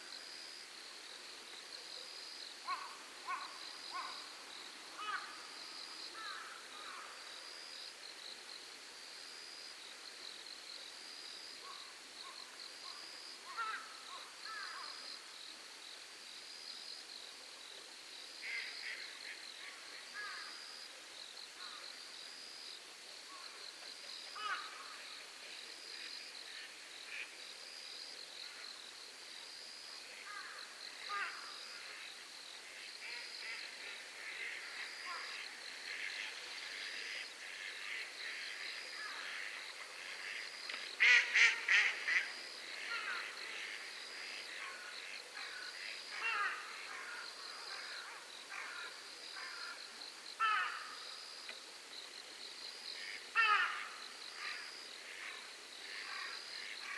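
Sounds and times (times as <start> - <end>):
insect chirping: 0.0 - 56.9.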